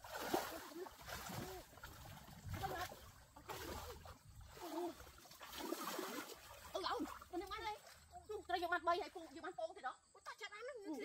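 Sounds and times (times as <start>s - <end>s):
water splashing: 0.0s - 9.5s.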